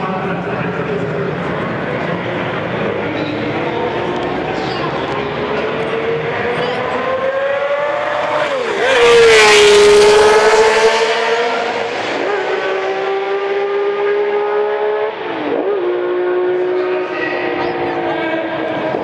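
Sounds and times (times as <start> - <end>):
racing car engine at full throttle: 0.0 - 19.0.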